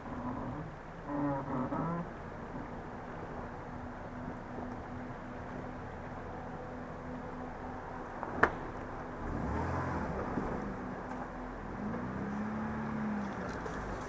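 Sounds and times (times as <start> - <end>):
off-road vehicle engine: 0.0 - 14.0.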